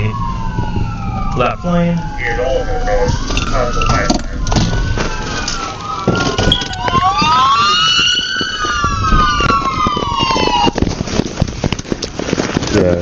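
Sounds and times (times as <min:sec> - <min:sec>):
police sirens wailing: 0:00.0 - 0:11.4.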